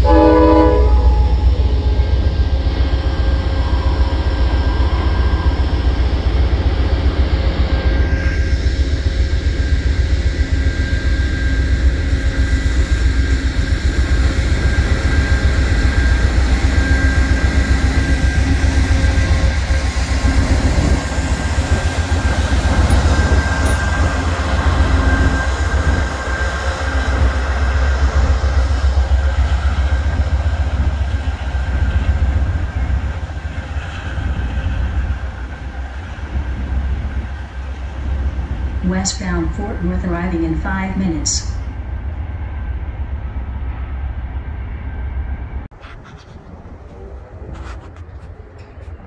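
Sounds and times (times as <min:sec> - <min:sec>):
passenger train rumbling: 0:00.0 - 0:49.0.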